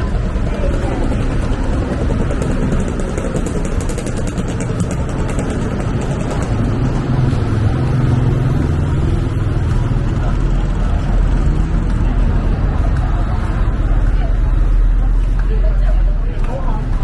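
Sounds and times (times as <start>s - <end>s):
passing cars and motorbikes: 0.0s - 17.0s.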